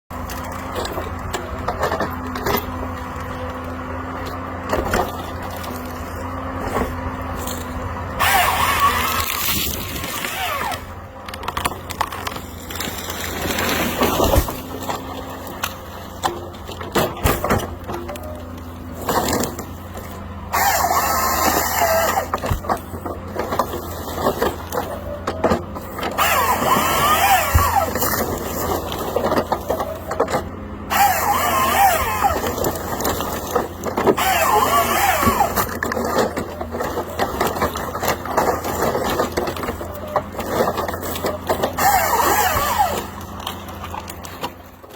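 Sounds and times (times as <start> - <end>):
harvester engine running: 0.0 - 44.9
harvester head sawing tree: 0.2 - 44.9.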